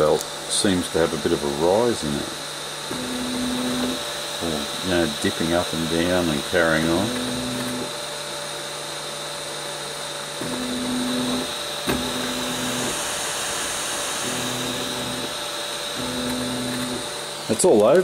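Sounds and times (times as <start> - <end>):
stepper motor whine: 0.0 - 18.0.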